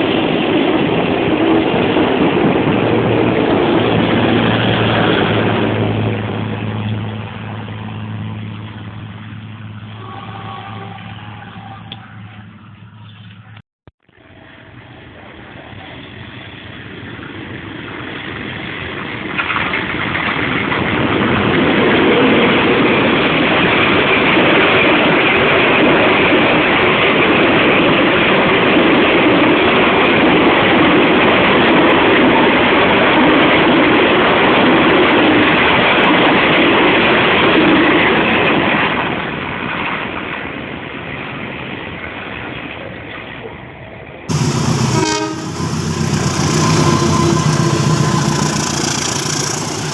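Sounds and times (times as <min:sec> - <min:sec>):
train passing close by: 0:00.0 - 0:49.9.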